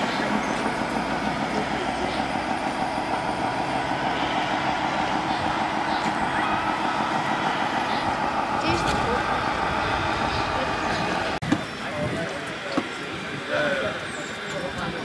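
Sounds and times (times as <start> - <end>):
diesel truck engine: 0.0 - 15.0.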